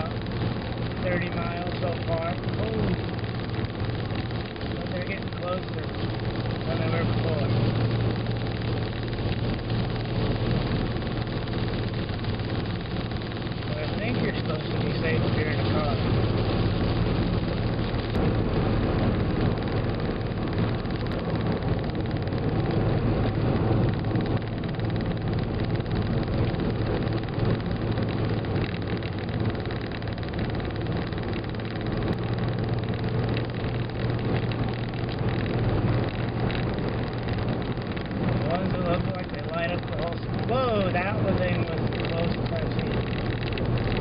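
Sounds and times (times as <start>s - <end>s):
car engine hum: 0.0s - 44.0s
road and tyre noise: 0.0s - 44.0s.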